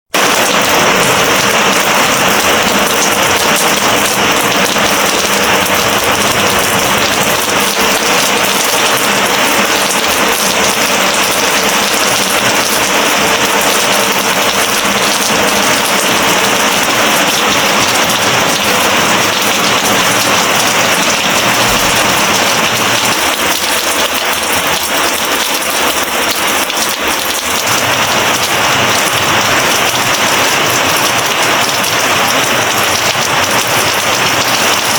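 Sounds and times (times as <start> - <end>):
heavy rain on leaves: 0.1 - 34.9.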